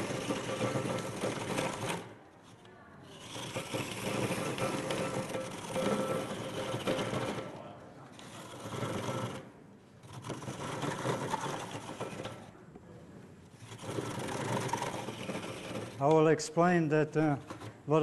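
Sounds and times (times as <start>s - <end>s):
coconut scraper rasping: 0.0s - 12.5s, 13.4s - 16.2s.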